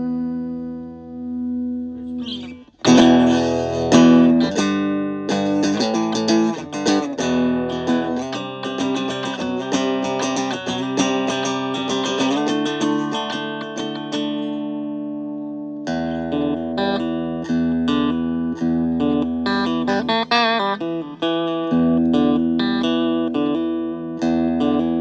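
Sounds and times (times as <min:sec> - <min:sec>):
electric guitar chords and notes: 0:00.0 - 0:25.0.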